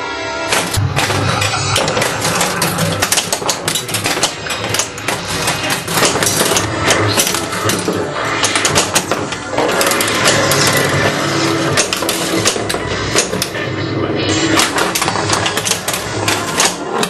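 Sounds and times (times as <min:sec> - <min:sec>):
pinball machine clatter: 0:00.5 - 0:17.0.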